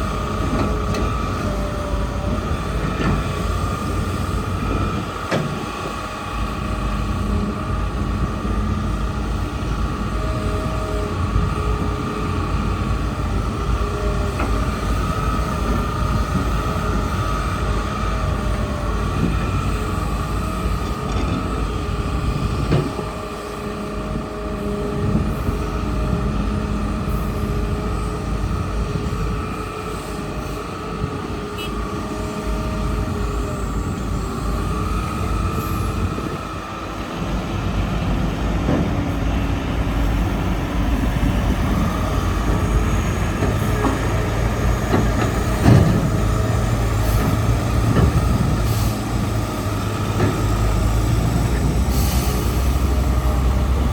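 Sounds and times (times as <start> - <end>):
excavator engine whining under load: 0.0 - 53.9.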